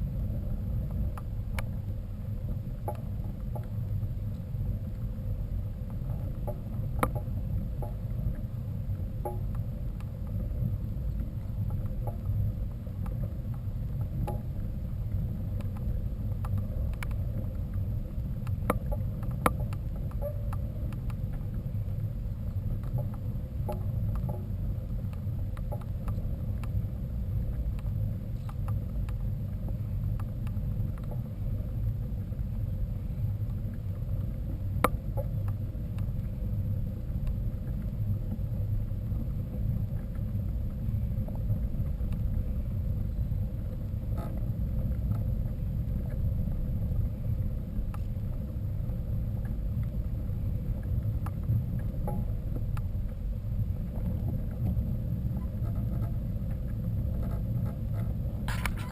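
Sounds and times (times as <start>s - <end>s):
mountain bike ride rumble: 0.0s - 58.9s
wind noise: 0.0s - 58.9s.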